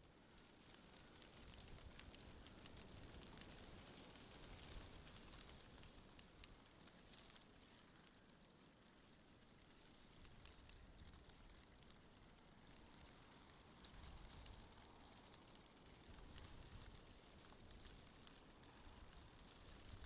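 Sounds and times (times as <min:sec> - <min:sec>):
faint wind through trees: 0:00.0 - 0:20.0.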